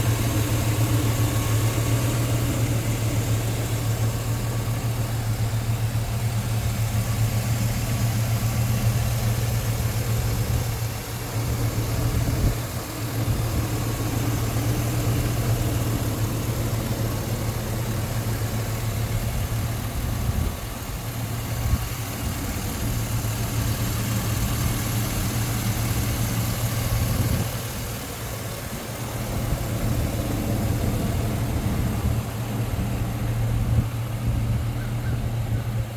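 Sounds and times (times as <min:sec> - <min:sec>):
pickup truck engine idling: 0:00.0 - 0:35.9.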